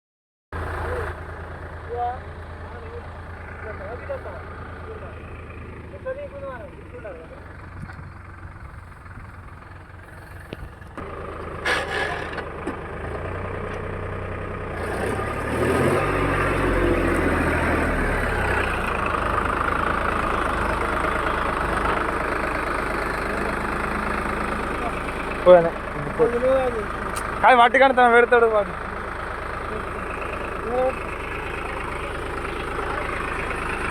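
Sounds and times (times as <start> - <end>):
tractor diesel engine running: 0.6 - 33.9.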